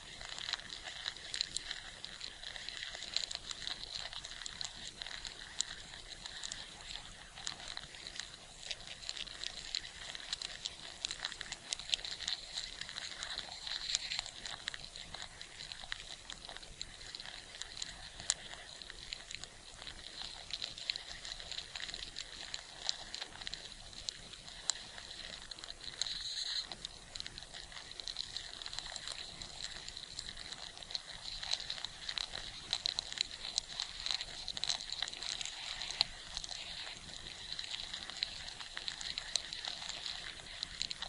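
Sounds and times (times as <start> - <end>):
ants rustling and clicking: 0.0 - 41.0.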